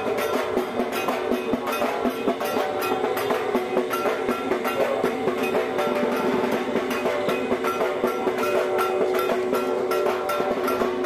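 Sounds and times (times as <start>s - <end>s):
music with percussion beat: 0.0s - 11.0s.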